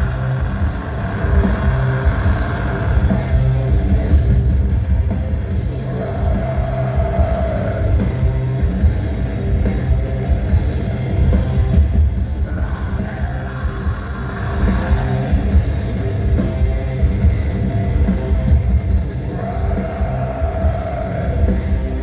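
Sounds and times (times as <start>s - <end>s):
metal band playing live: 0.0s - 22.0s
vocals: 0.0s - 22.0s.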